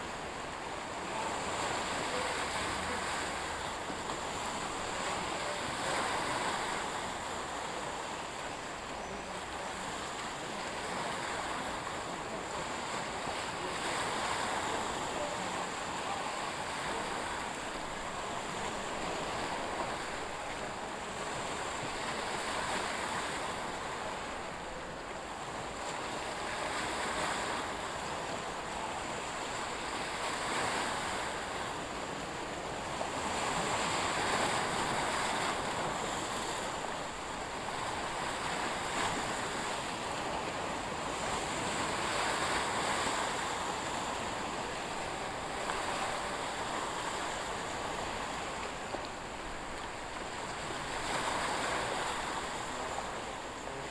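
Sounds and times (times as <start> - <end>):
sea waves washing in: 0.0 - 53.9.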